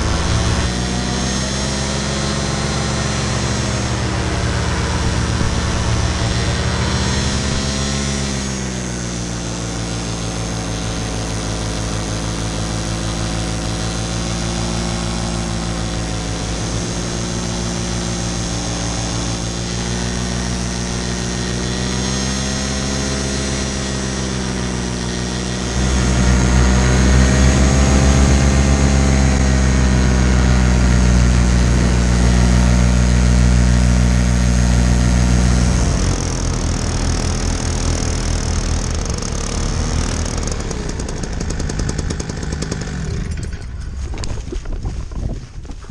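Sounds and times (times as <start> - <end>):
paramotor engine and propeller: 0.0 - 45.9.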